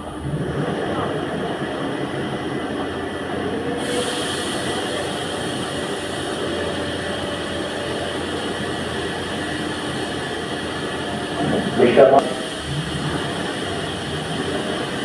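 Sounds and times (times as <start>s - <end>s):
vehicle drivetrain drone: 0.0s - 15.0s.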